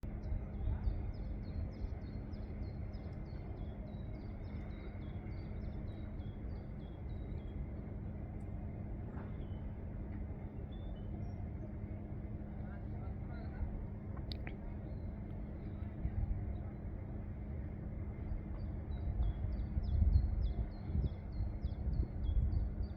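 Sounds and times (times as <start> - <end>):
faint hum: 0.0 - 22.9
steady low rumble: 0.0 - 22.9.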